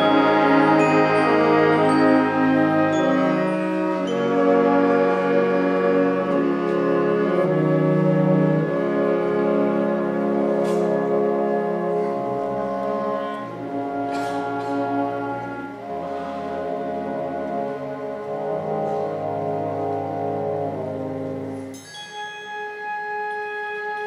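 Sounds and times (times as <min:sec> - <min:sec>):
wind band playing held chords: 0:00.0 - 0:24.0.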